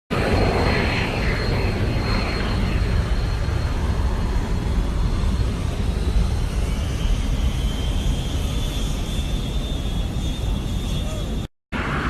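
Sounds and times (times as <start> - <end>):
aircraft engine rumble: 0.1 - 12.0.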